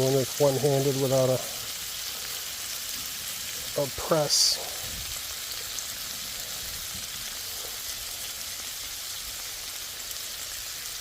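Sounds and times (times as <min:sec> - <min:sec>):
meat sizzling on a griddle: 0:00.0 - 0:11.0.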